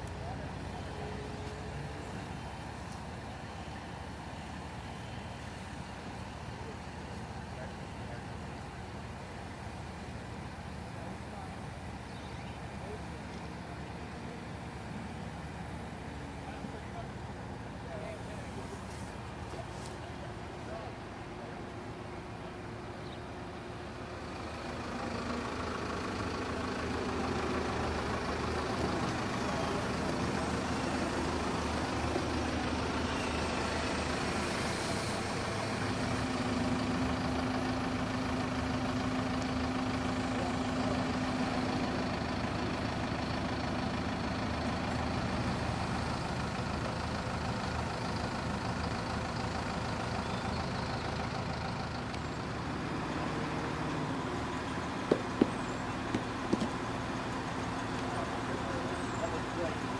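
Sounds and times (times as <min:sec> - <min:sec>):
crane diesel engine running: 0:00.0 - 0:59.9.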